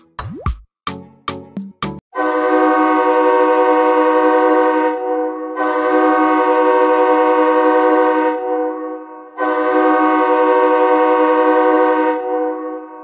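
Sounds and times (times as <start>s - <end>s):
horn sounding a chord: 2.1s - 13.0s.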